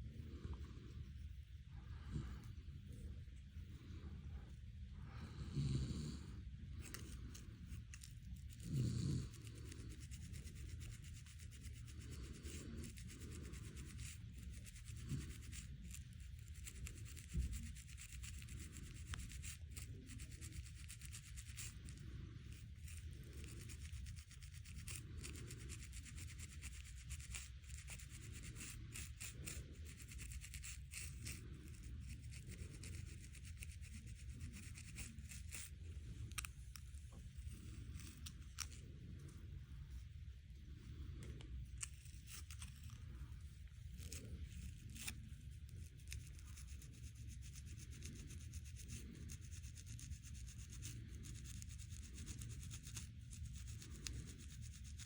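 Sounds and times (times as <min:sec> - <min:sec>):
fingernails scratching scalp: 0:05.4 - 0:40.1, 0:40.9 - 0:55.0.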